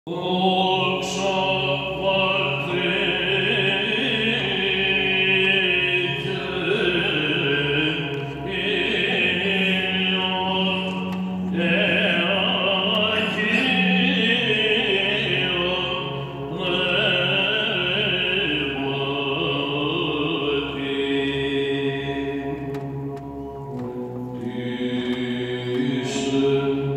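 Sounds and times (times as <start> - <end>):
man chanting a hymn: 0.1 - 23.0, 23.8 - 26.9.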